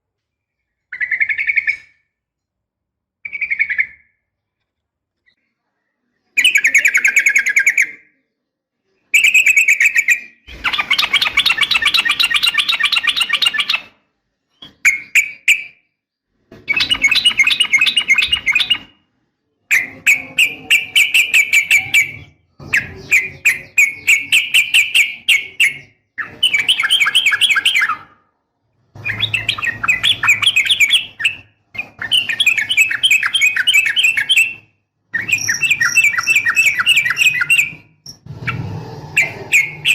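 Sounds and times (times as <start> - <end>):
bird chattering song: 0.5 - 2.2, 3.2 - 4.2, 6.2 - 8.2, 9.0 - 19.0, 19.6 - 28.2, 29.0 - 39.9.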